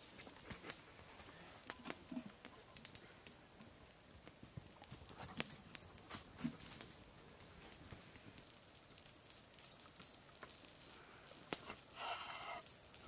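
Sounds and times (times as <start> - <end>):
quiet outdoor background: 0.0 - 13.0.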